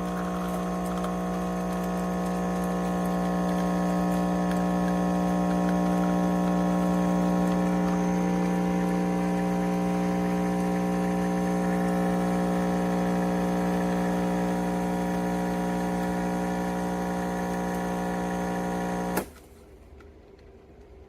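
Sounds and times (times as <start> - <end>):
pump switching off click: 0.0 - 19.3
water pump humming: 0.0 - 19.3.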